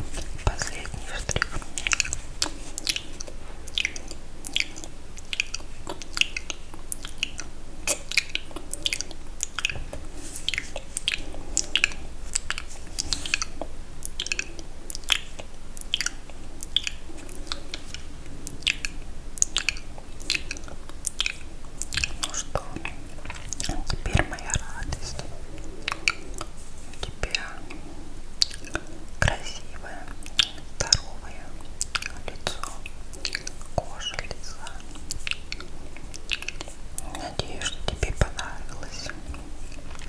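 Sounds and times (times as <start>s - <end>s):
lip smacks and tongue clicks: 0.0s - 40.0s.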